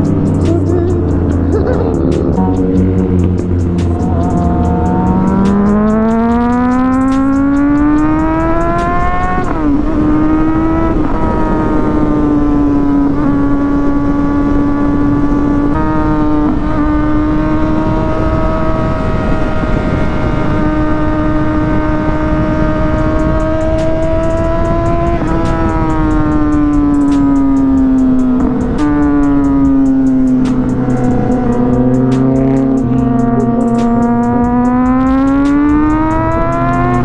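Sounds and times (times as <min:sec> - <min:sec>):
motorcycle engine cruising: 0:00.0 - 0:37.0
wind and road noise: 0:00.0 - 0:37.0.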